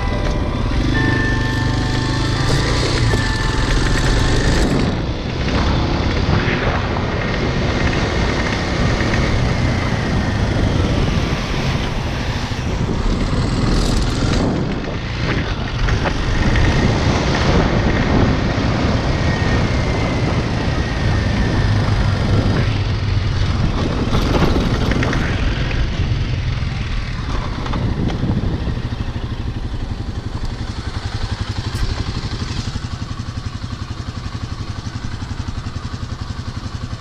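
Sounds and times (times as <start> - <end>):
motorcycle engine droning: 0.0 - 37.0.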